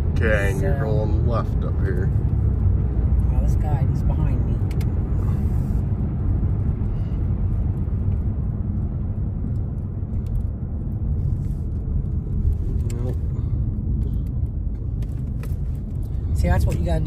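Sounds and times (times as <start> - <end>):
car road noise inside cabin: 0.0 - 17.0.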